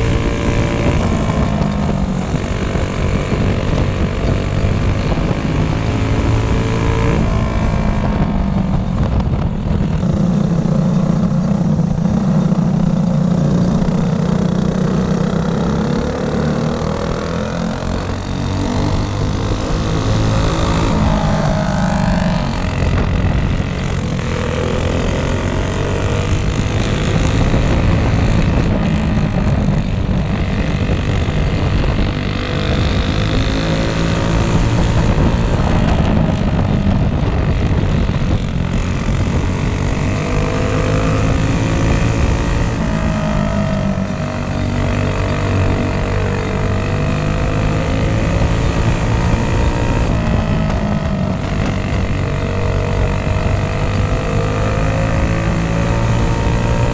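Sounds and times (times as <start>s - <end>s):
go-kart engines revving: 0.0s - 56.9s.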